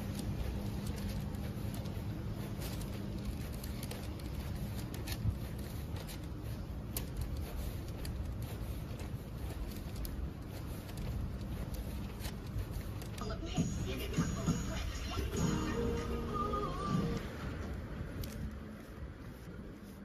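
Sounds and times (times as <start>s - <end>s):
footsteps on asphalt: 0.0s - 20.0s
street noise: 0.0s - 20.0s
wind: 0.0s - 20.0s.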